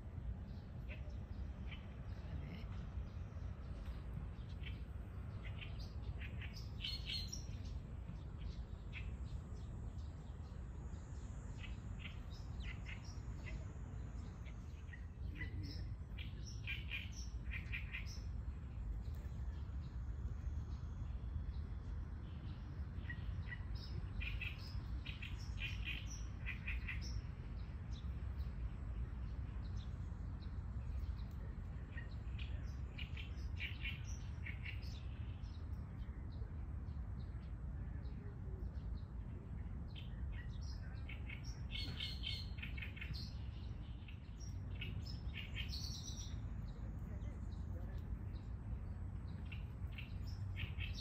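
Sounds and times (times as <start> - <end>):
songbirds chirping: 0.0 - 51.0
steady low rumble: 0.0 - 51.0.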